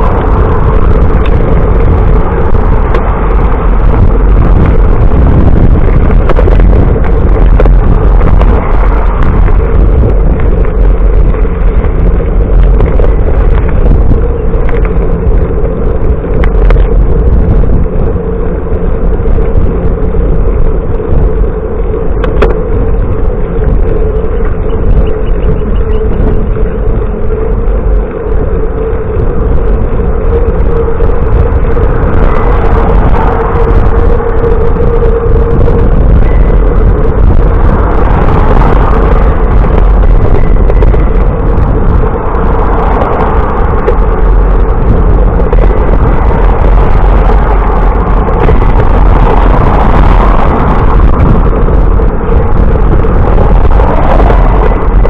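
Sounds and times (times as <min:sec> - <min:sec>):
constant hum: 0:00.0 - 0:55.0
wind buffeting microphone: 0:00.0 - 0:55.0.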